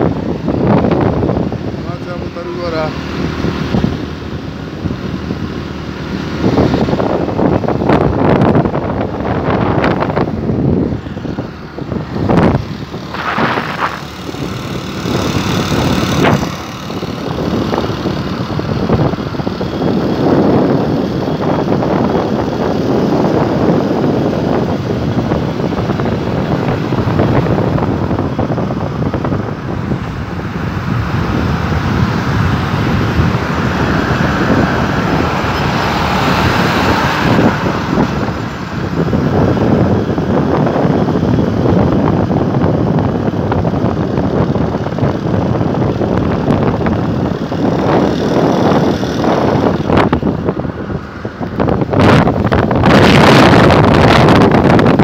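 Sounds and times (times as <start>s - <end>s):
motorcycle engine: 0.0s - 55.0s
passing road traffic: 0.0s - 55.0s
wind buffeting microphone: 0.0s - 55.0s.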